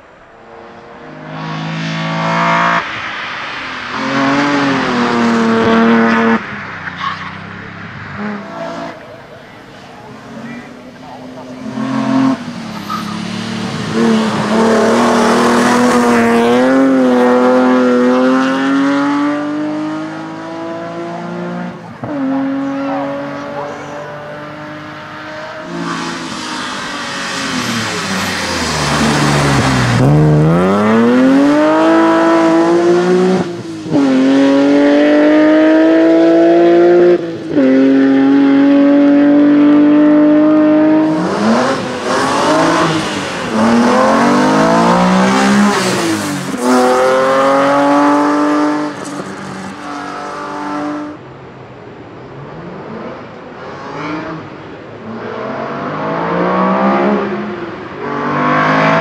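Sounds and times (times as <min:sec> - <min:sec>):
race car engine revving: 0:03.8 - 0:51.2.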